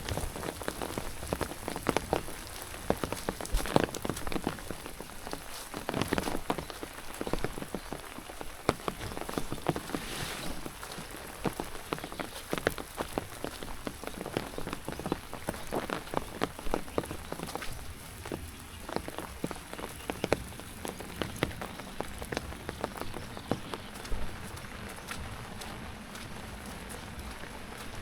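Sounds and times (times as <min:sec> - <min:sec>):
rain hiss: 0:00.0 - 0:28.0.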